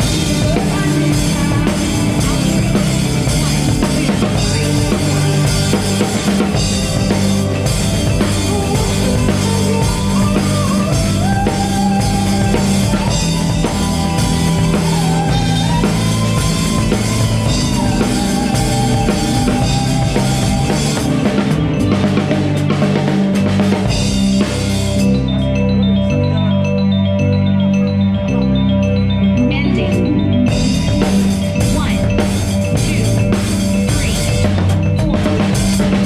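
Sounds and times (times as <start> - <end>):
band music: 0.0 - 36.0
bell-like mallet part: 0.0 - 36.0.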